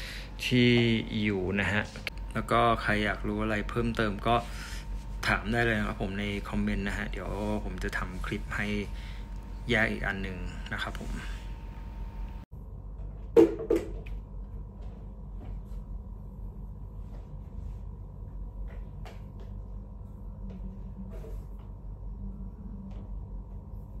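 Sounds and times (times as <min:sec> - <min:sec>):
steady high hum: 0:00.0 - 0:24.0.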